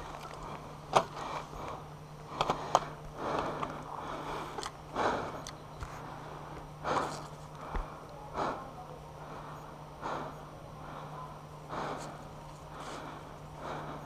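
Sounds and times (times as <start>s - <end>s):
person breathing hard: 0.0s - 14.0s
steady low hum: 0.0s - 14.0s.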